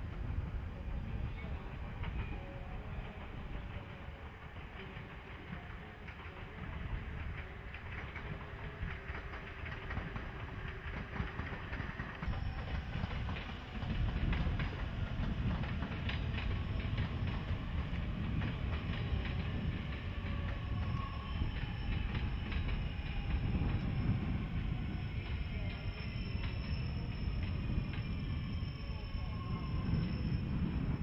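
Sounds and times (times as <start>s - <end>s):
electric train running past: 0.0s - 31.0s.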